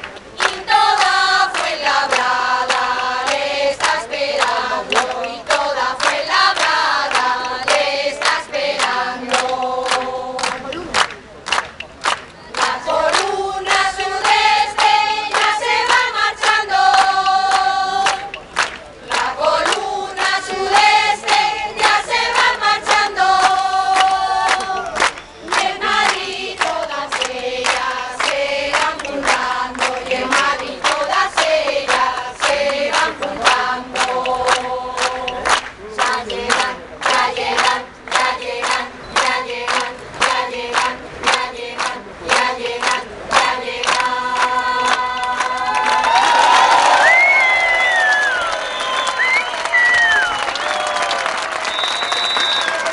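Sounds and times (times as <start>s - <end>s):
people clapping along: 0.0s - 52.9s
women's choir singing: 0.3s - 10.8s, 12.5s - 47.2s.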